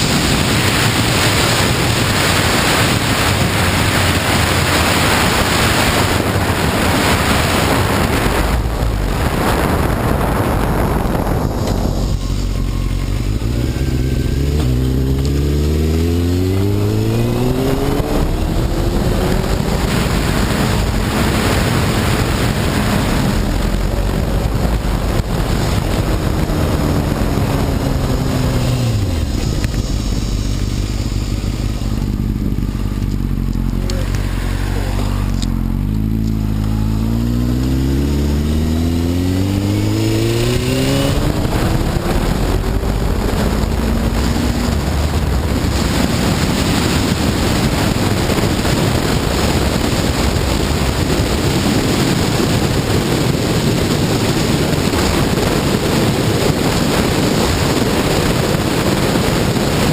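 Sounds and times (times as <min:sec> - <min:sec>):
motorcycle engine accelerating: 0:00.0 - 0:59.9
wind rush on microphone: 0:00.0 - 0:59.9.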